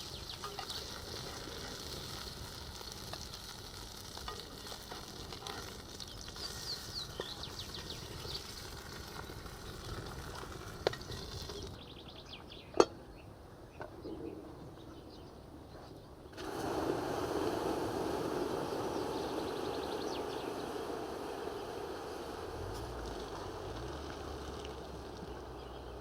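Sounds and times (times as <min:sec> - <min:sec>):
patties sizzling in hot oil: 0:00.0 - 0:11.8, 0:16.4 - 0:26.0.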